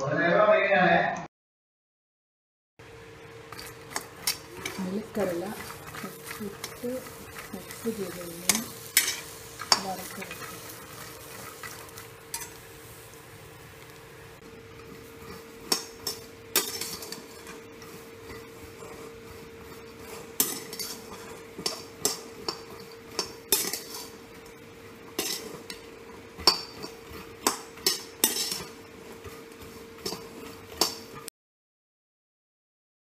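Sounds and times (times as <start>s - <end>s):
peanuts tossed in wok: 3.5s - 31.3s
spatula scraping a wok: 3.5s - 31.3s.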